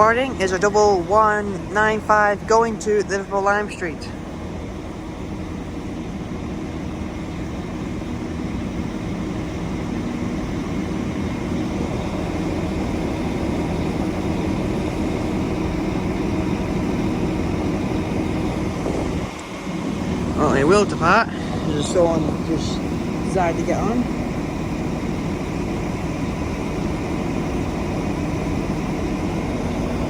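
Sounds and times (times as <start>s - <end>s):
train diesel engines running: 0.0s - 30.0s.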